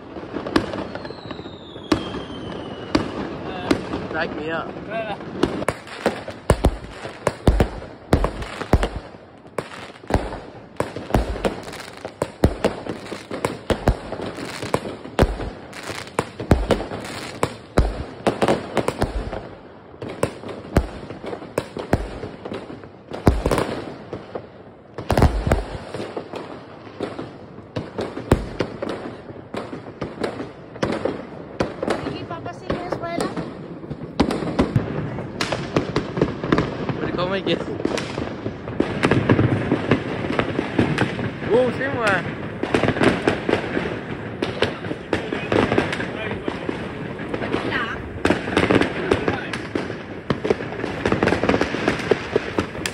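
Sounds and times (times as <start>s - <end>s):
firecrackers banging: 0.0s - 52.9s
rockets bursting: 0.0s - 52.9s.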